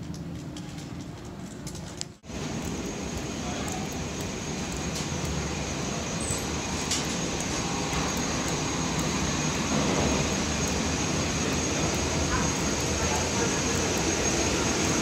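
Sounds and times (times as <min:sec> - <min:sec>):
airliners rumbling and humming: 0:00.0 - 0:15.0.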